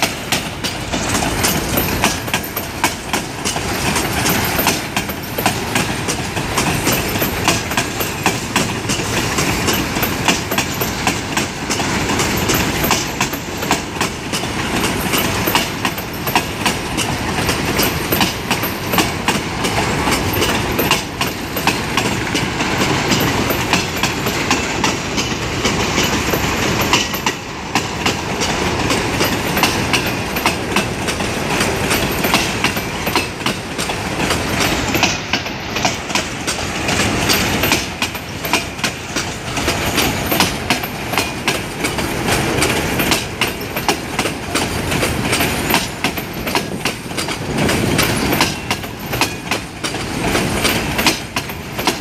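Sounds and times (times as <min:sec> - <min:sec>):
freight cars rolling noise: 0:00.0 - 0:52.0
train wheels clicking over rail joints: 0:00.0 - 0:52.0.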